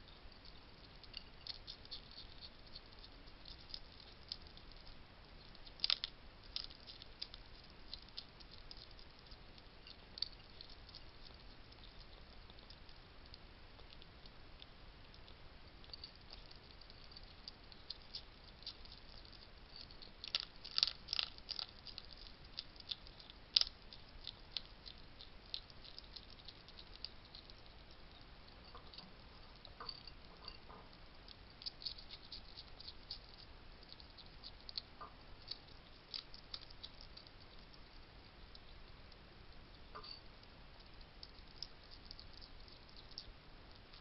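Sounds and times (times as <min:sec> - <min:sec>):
hedgehog crunching food: 0:00.0 - 0:44.0.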